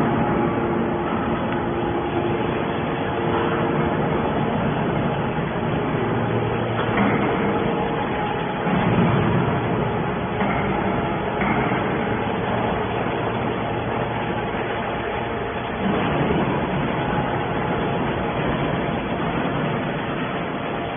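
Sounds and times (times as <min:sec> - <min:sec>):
hydraulic baler running: 0:00.0 - 0:20.9.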